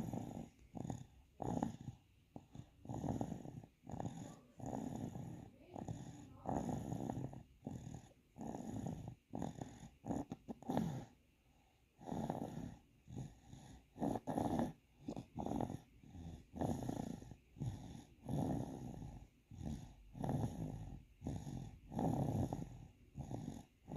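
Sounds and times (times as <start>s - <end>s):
soft snoring: 0.0s - 23.9s.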